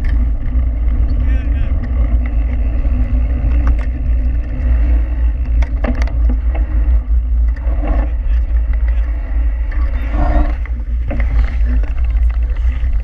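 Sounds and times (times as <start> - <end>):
bike rolling over gravel: 0.0 - 13.0
stones clicking and bike rattle: 0.0 - 13.0
wind on microphone: 0.0 - 13.0.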